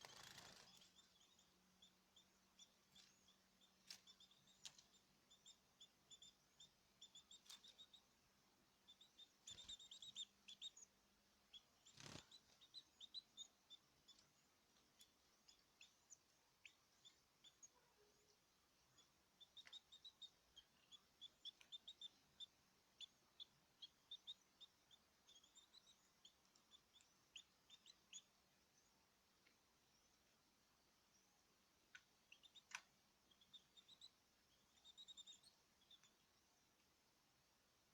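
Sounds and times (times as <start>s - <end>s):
caged small birds chirping: 0.0s - 30.4s, 31.0s - 36.9s.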